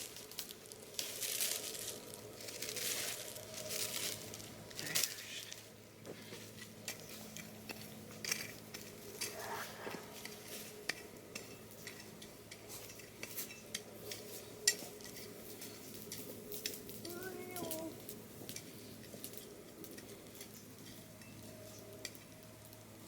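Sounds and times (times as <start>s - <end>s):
light clicks clinks and scrapes: 0.2s - 22.4s.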